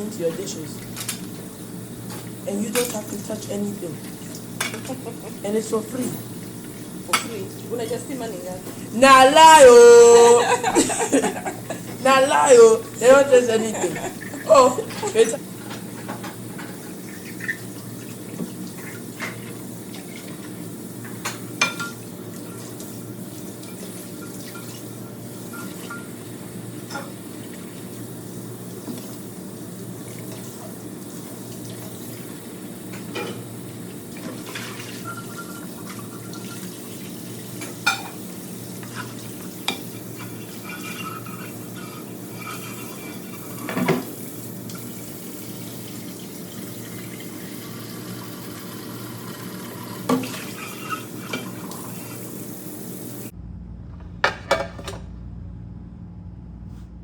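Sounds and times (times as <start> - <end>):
water running in sink: 0.0 - 53.4.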